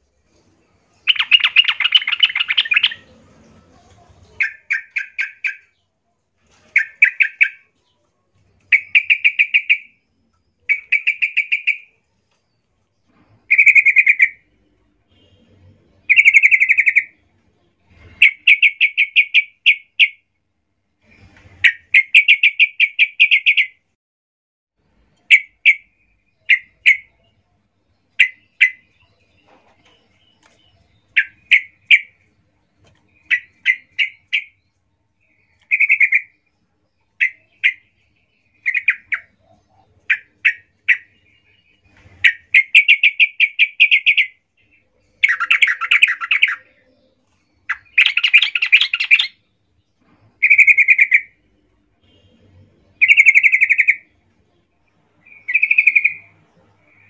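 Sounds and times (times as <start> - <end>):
bird chirping agitatedly: 0.3 - 5.9, 6.7 - 12.6, 13.3 - 17.3, 18.0 - 20.3, 21.6 - 23.8, 25.2 - 54.2, 54.9 - 57.0.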